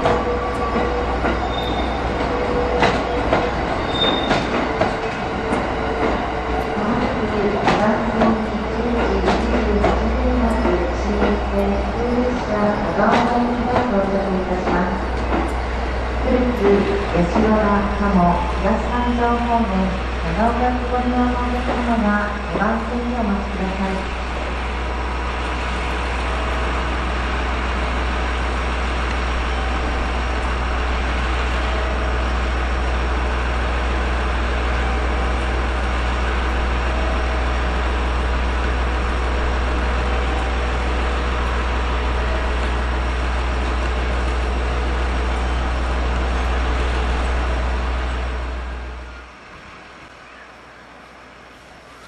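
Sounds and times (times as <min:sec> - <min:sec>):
low train rumble: 0:00.0 - 0:52.0.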